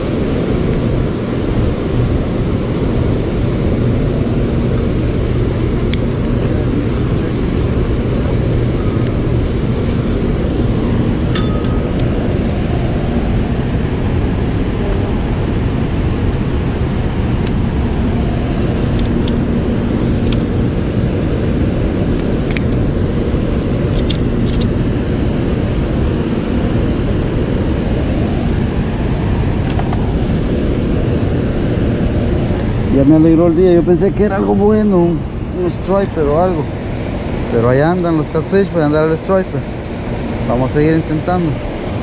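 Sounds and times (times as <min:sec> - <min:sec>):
water roaring over a dam: 0:00.0 - 0:42.0.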